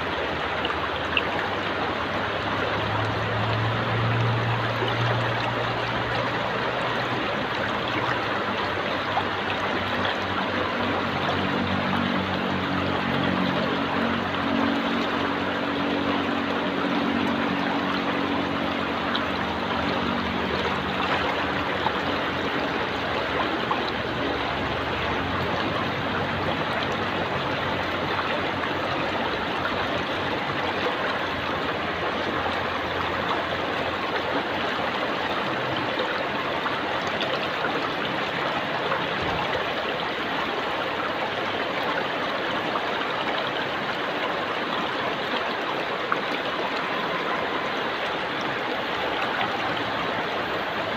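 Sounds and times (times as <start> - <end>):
stream flowing over rocks: 0.0 - 50.9.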